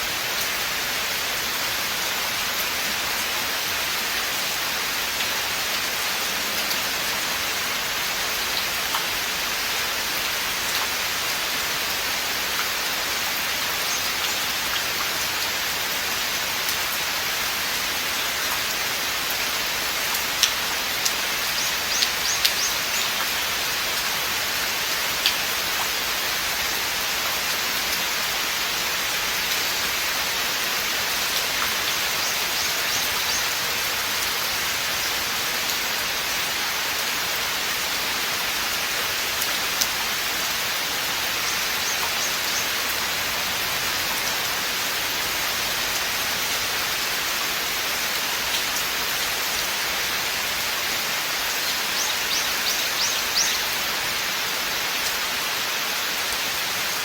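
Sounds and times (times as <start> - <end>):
rain falling on forest: 0.0 - 57.0.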